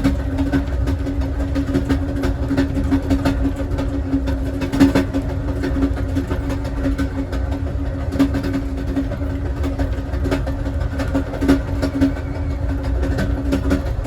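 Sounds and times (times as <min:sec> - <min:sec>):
clicks and knocks from track: 0:00.0 - 0:14.0
train wheels rumbling on rails: 0:00.0 - 0:14.0.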